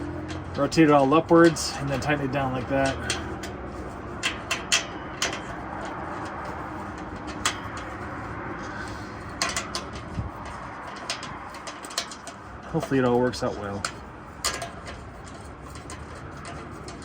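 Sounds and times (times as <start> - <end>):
metallic clicks of tools handled: 0.0 - 17.0
steady background hum: 0.0 - 17.0.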